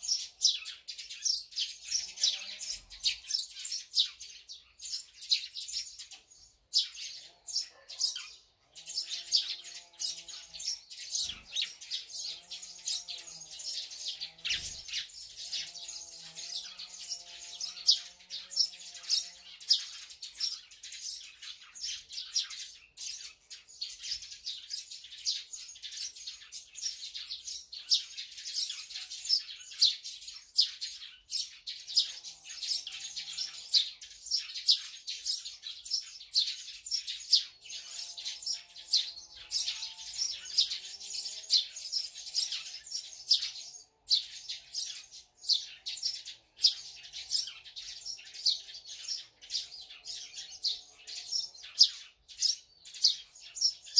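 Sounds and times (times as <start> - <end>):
small songbirds chirping: 0.0 - 53.9.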